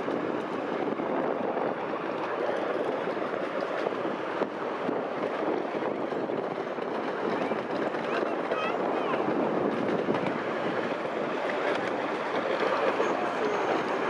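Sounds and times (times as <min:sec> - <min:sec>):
miniature train rolling on track: 0:00.0 - 0:14.0.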